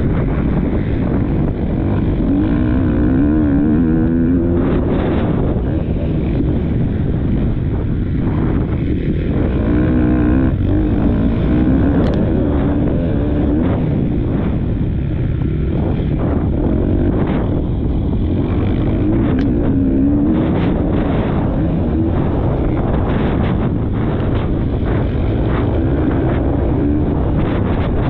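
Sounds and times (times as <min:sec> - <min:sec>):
motorbike engine revving: 0:00.0 - 0:28.0
wind noise on microphone: 0:00.0 - 0:28.0.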